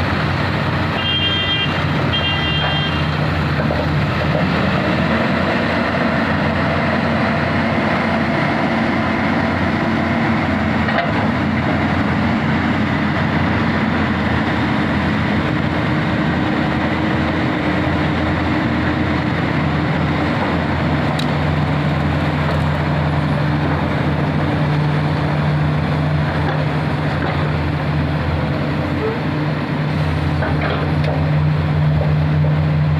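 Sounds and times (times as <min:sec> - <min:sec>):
heavy diesel engines running: 0:00.0 - 0:32.9.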